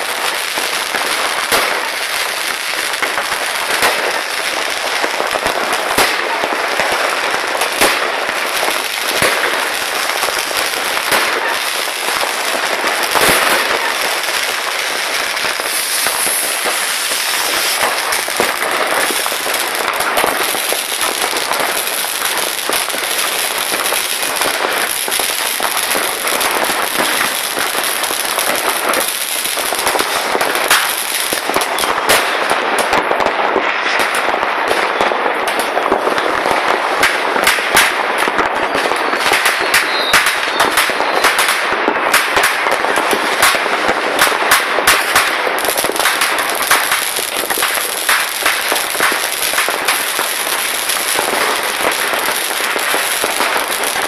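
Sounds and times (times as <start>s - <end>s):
fireworks popping and banging: 0.0s - 54.0s.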